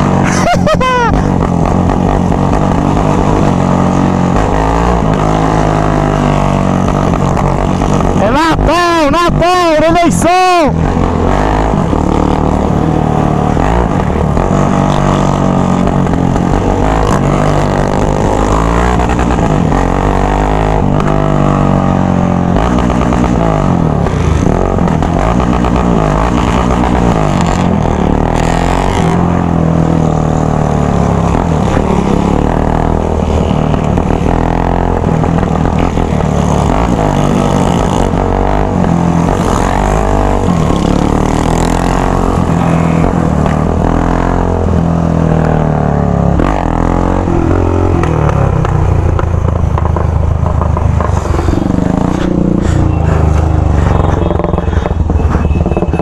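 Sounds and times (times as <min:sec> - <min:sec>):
motorcycle engines revving: 0:00.0 - 0:56.0
trail bike engine revving: 0:00.0 - 0:56.0.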